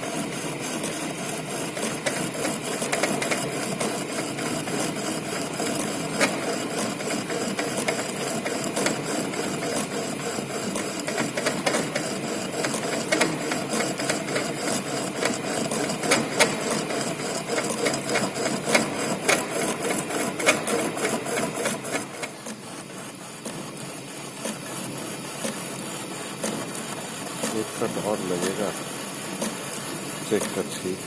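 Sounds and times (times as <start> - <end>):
lathe running: 0.0 - 31.0
lathe tool cutting metal: 0.0 - 31.0.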